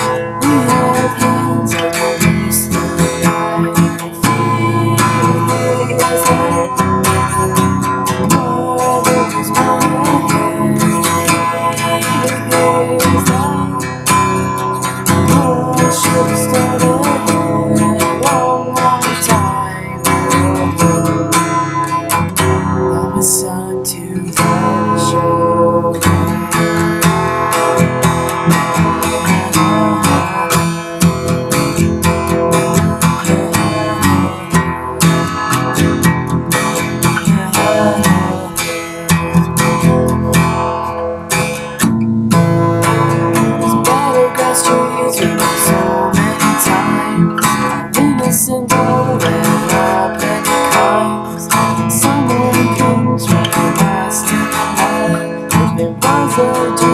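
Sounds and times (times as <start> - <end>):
acoustic guitar strumming: 0.0 - 56.9.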